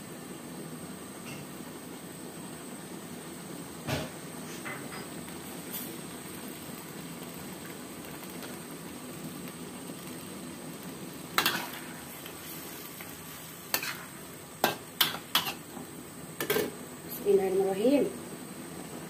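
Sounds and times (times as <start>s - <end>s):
stir-fry simmering in a wok: 0.0s - 19.0s.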